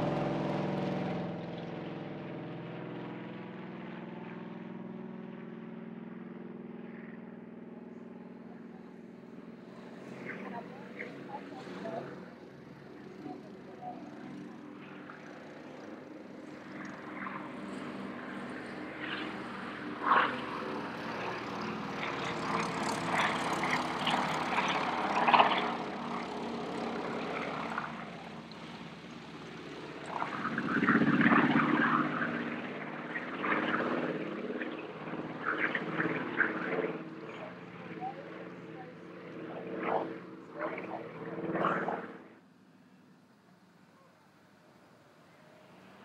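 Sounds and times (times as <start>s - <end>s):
propeller aircraft engines droning: 0.0s - 46.0s.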